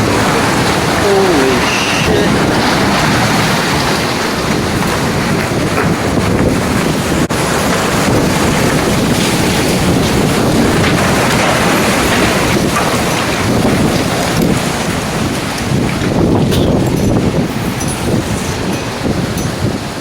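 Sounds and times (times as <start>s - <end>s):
rain: 0.0s - 20.0s
storm wind blowing: 0.0s - 20.0s.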